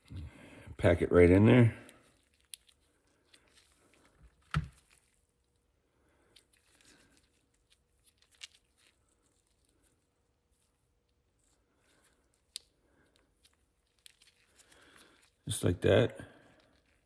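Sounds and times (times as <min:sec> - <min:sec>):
small handling noises: 0:00.0 - 0:17.0.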